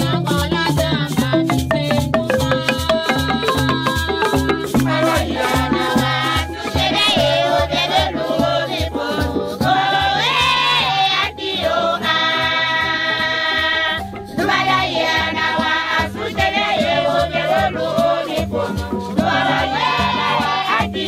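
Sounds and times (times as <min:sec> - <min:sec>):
choir singing in harmony: 0:00.0 - 0:02.0, 0:02.7 - 0:21.0
steady percussion beat: 0:00.0 - 0:21.0.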